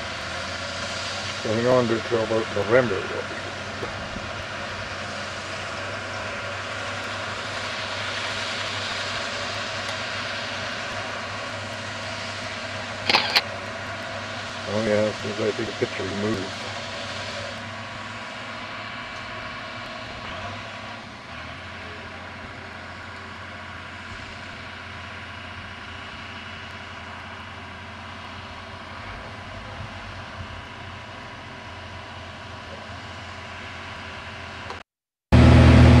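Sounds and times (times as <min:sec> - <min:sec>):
farm machinery engine drone: 0:00.0 - 0:36.0.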